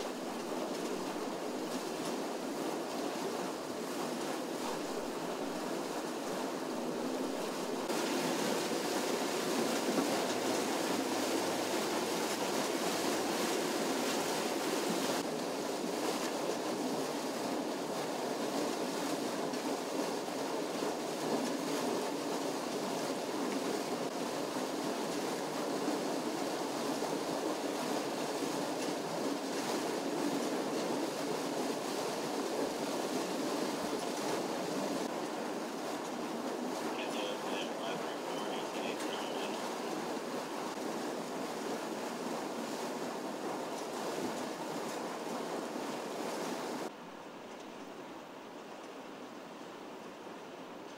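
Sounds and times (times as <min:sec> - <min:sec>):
water gushing and splashing: 0:00.0 - 0:47.0.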